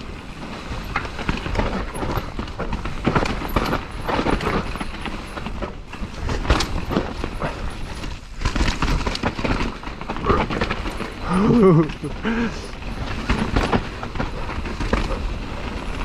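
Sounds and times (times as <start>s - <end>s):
bike chain and frame clattering: 0.0s - 16.0s
bike tyres rattling over dirt: 0.0s - 16.0s.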